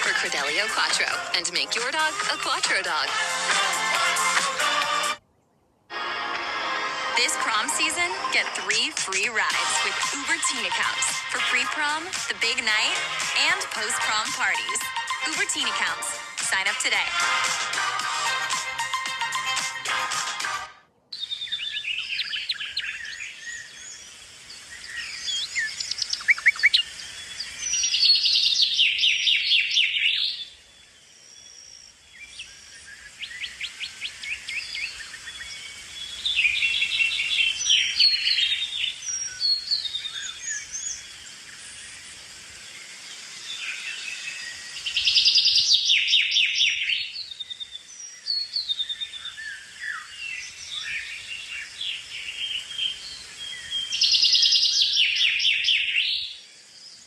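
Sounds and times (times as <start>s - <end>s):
songbirds singing and chirping: 0.0s - 3.2s, 7.2s - 17.4s, 21.1s - 57.0s
rapid trilled birdsong: 7.6s - 17.4s, 21.2s - 57.0s.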